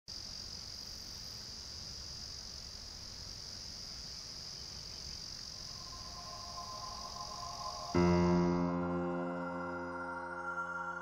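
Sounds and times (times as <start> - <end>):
insects trilling: 0.1 - 10.9.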